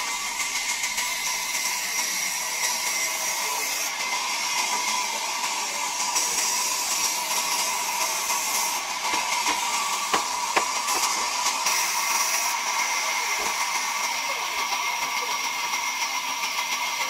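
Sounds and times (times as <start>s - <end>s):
band saw whining: 0.0s - 17.0s.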